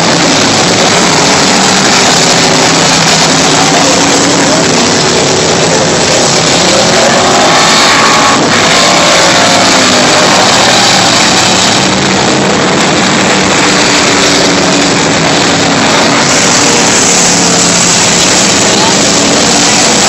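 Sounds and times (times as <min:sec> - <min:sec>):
stock car engines racing: 0:00.0 - 0:20.0.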